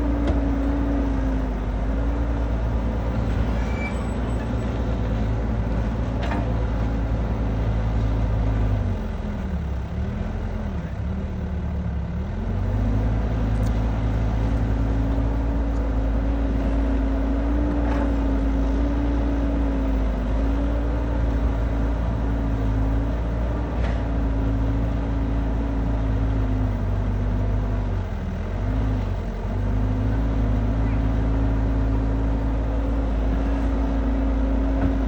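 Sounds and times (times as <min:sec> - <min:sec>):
combine harvester diesel engine: 0:00.0 - 0:35.0.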